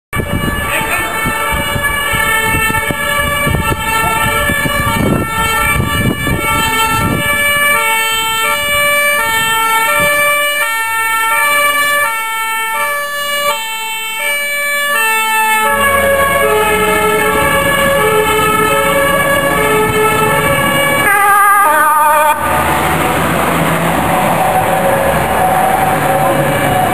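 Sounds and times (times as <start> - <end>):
two-tone fire engine siren: 0.1 - 26.9
truck engine rumble: 0.2 - 26.9.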